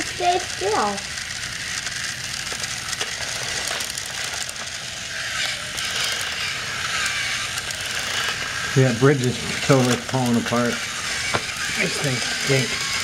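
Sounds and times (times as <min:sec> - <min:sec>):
higher whirring: 0:00.0 - 0:13.0
toy train motor whirring: 0:00.0 - 0:13.0.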